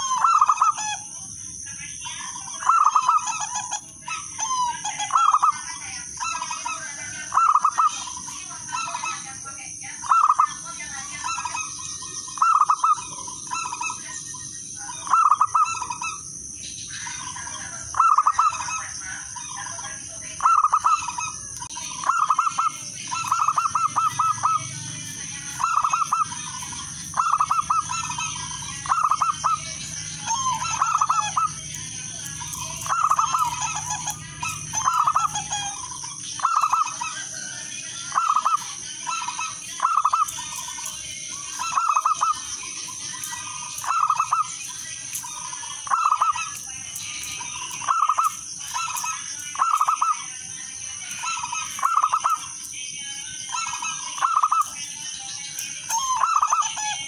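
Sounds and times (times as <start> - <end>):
dove cooing: 0.0 - 1.2, 2.4 - 9.3, 10.0 - 14.2, 14.8 - 16.3, 17.1 - 50.2, 51.0 - 52.6, 53.5 - 54.8, 55.6 - 57.0.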